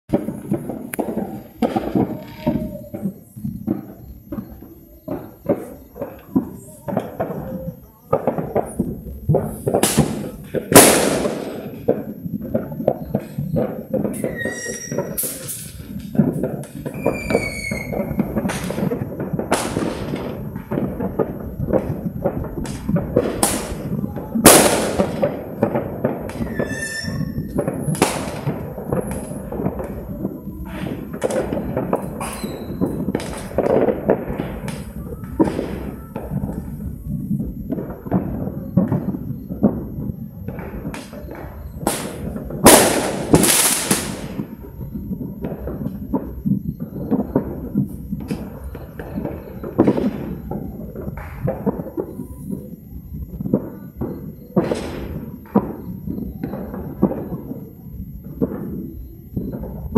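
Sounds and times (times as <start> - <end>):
fireworks and firecrackers banging: 0.0 - 59.9.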